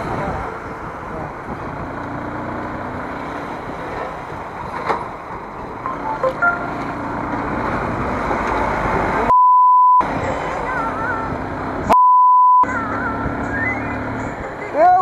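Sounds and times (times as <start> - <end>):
motorcycle engine: 0.0 - 9.3, 10.0 - 11.9, 12.7 - 15.0
wind and road noise: 0.0 - 9.4, 10.0 - 12.0, 12.6 - 15.0.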